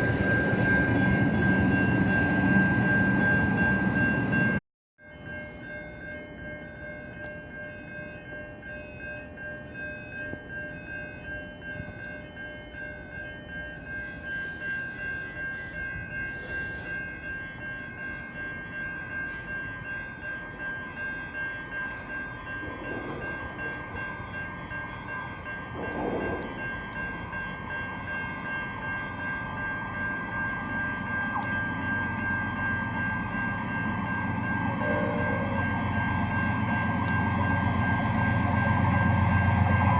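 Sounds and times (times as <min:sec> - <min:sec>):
train running on rails: 0:00.0 - 0:39.9
high-pitched whine: 0:05.0 - 0:39.9.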